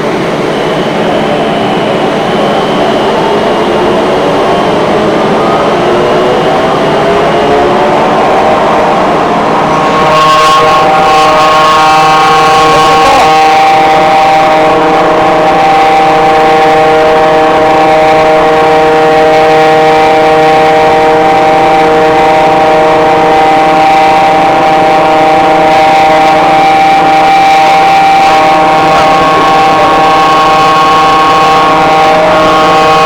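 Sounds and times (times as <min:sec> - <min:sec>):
air compressor running: 0:00.0 - 0:33.0.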